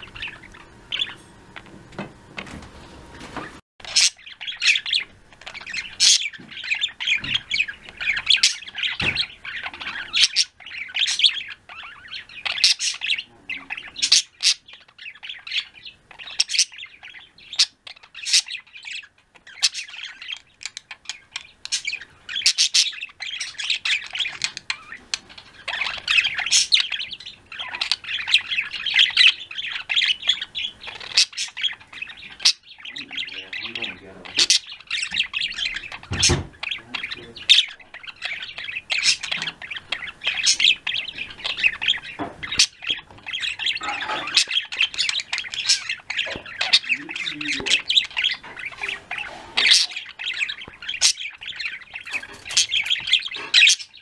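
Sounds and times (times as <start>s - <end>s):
budgies chattering: 0.0s - 54.0s.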